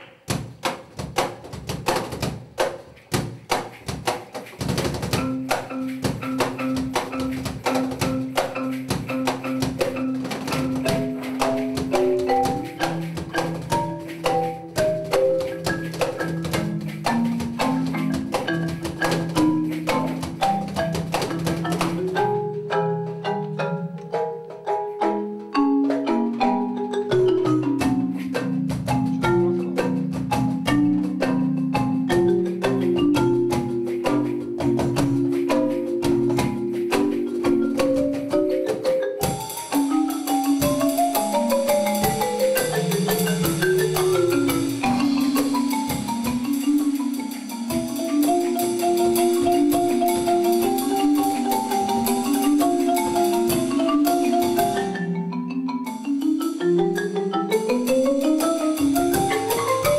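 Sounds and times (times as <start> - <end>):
drums and cymbals: 0.0 - 59.9
marimba melody: 0.0 - 59.9.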